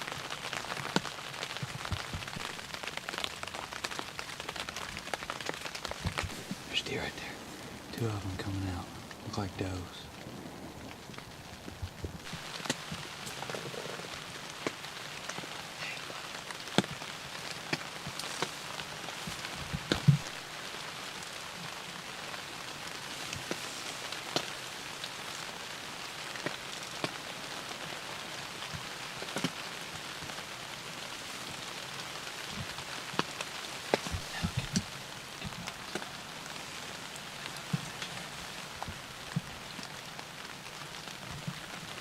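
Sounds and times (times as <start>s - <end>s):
hard rain falling: 0.0s - 42.0s.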